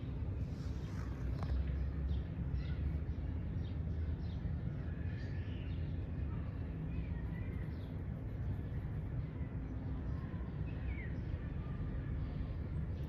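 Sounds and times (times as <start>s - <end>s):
steady low rumble: 0.0s - 5.0s, 5.8s - 13.0s
birds chirping: 0.0s - 13.0s.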